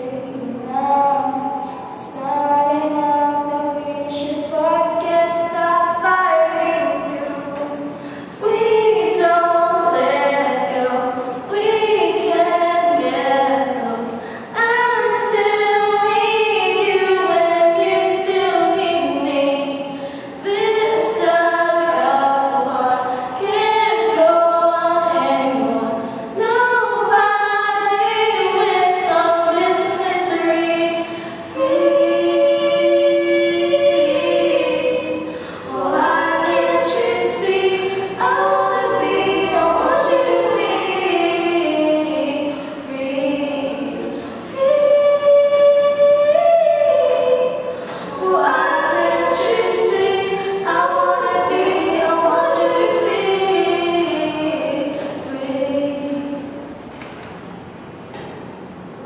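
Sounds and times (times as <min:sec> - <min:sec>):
women singing unaccompanied: 0:00.0 - 0:56.7.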